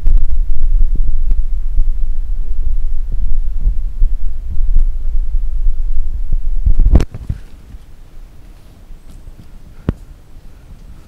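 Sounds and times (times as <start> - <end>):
microphone handling rumble: 0.0 - 10.1.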